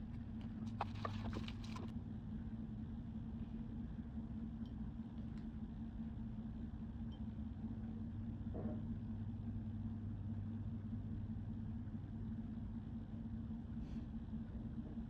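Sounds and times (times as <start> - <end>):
steady low two-tone hum: 0.0 - 15.0.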